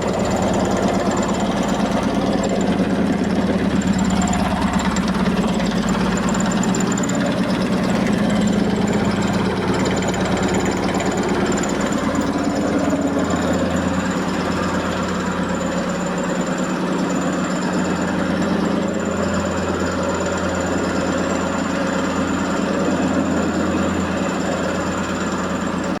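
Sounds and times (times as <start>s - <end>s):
rapid knocking vibration: 0.0s - 26.0s
washing machine spinning: 0.0s - 26.0s.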